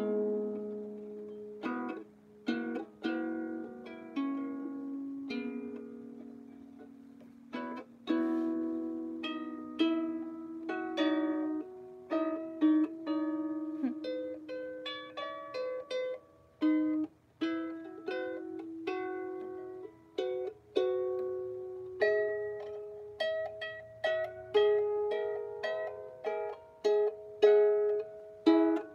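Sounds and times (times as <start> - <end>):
out-of-tune harp plucked: 0.0 - 28.9.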